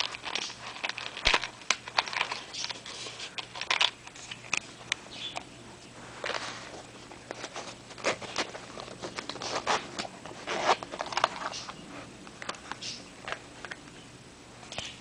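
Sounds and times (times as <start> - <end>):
packaging rustling and scraping: 0.0 - 4.9, 5.8 - 13.8
packaging clicks: 0.0 - 5.5, 7.2 - 14.0.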